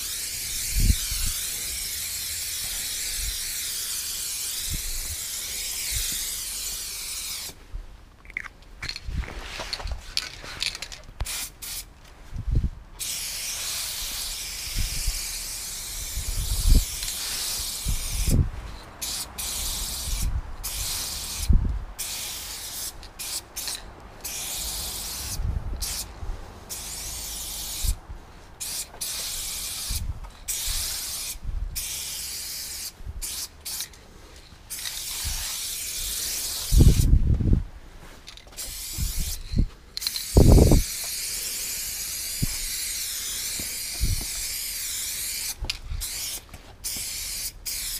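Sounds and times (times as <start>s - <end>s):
spray paint can hissing: 0.0s - 7.6s, 10.6s - 11.9s, 13.0s - 26.1s, 26.7s - 28.0s, 28.6s - 34.0s, 34.7s - 37.2s, 38.5s - 47.9s.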